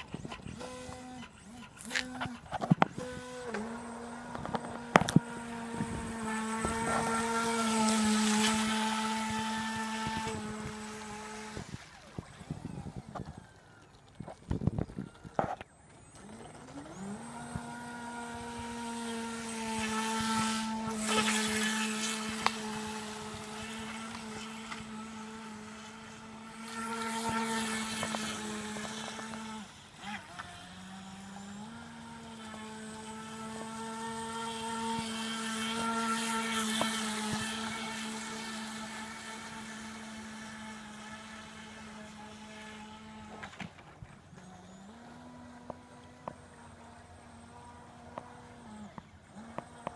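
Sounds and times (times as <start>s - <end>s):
model boat motor whining: 0.0s - 49.9s.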